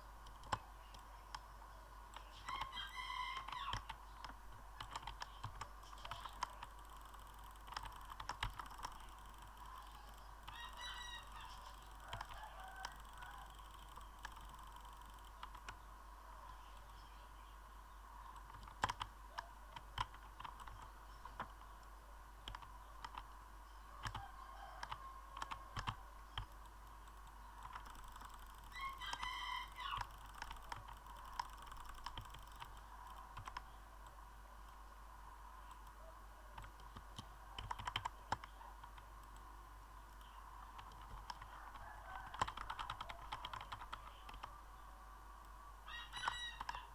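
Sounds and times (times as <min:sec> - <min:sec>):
faint irregular clicks: 0:00.0 - 0:44.8, 0:45.4 - 0:46.9
low background hum: 0:00.0 - 0:46.9.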